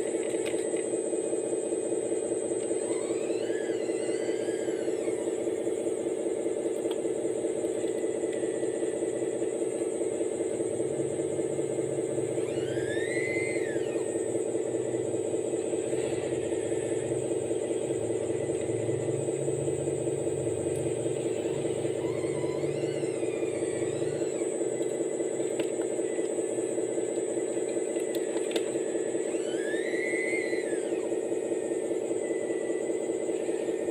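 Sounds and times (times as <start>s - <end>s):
hydraulic whine: 0.0s - 33.9s
model excavator humming: 0.0s - 33.9s.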